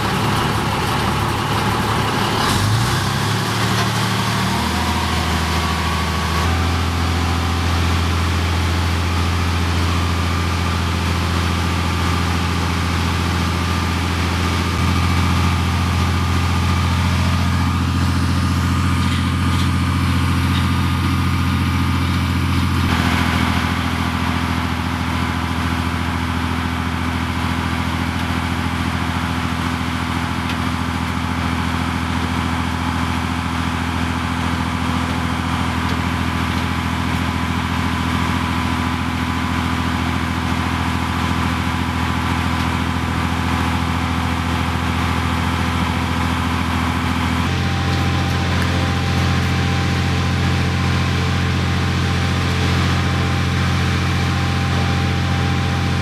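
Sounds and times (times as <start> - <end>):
tracked vehicle engine running: 0.0 - 56.0.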